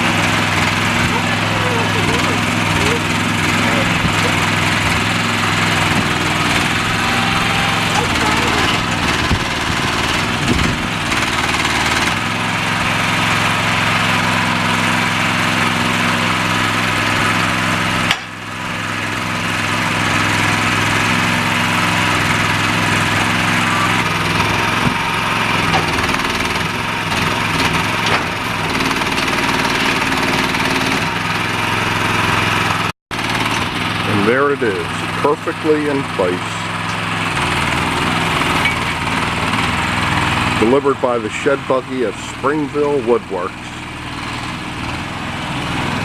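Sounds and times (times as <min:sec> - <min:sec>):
small engine running: 0:00.0 - 0:46.0.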